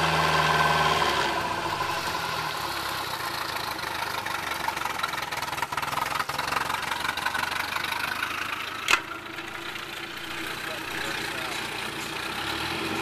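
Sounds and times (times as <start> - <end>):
boat engine idling: 1.4 - 12.4.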